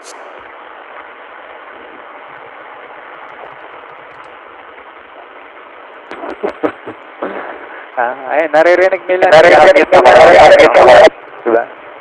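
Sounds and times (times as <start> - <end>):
microphone hiss: 0.0 - 12.0.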